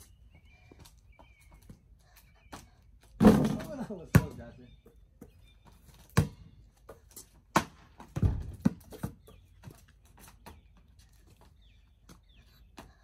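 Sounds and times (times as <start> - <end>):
small birds chirping: 0.0 - 7.5, 8.5 - 13.0
basketball bouncing on pavement: 2.4 - 13.0.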